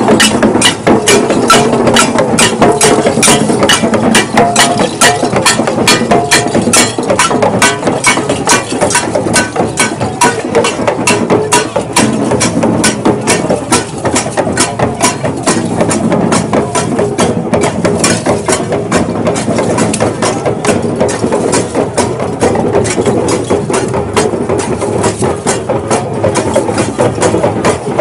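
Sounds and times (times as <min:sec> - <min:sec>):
rattling percussion rhythm: 0:00.0 - 0:28.0.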